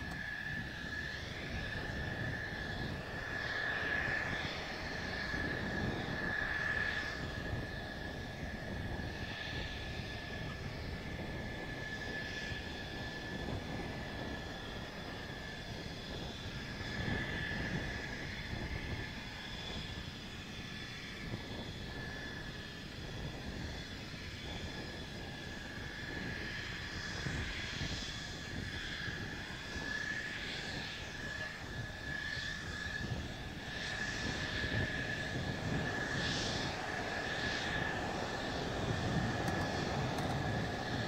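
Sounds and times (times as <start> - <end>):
jet engine whine and rumble: 0.0 - 41.0.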